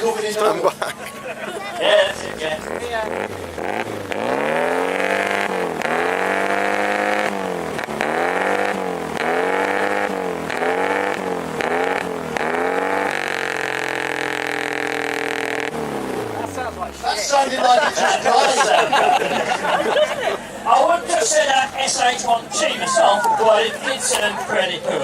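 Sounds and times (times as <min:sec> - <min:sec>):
car engine revving loud exhaust: 0:01.8 - 0:22.5.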